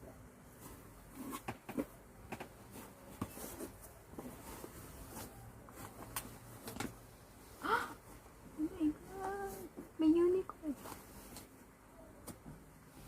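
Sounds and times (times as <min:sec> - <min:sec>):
rustling: 0:00.4 - 0:13.0.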